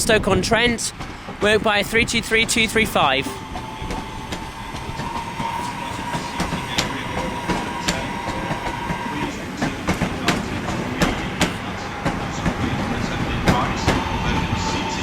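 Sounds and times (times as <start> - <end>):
steady train whine: 0.0 - 15.0
train wheels clicking over rail joints: 0.1 - 15.0.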